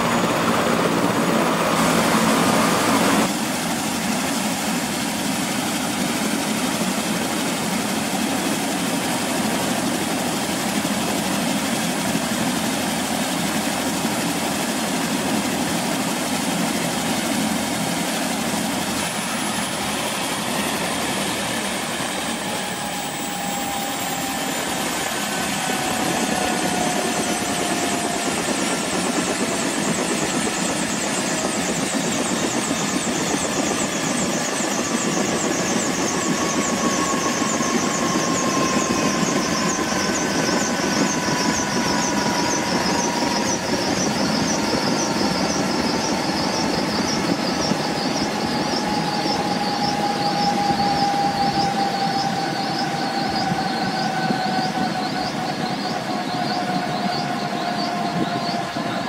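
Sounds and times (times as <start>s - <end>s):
helicopter turbine whine and rotor: 0.0s - 59.0s.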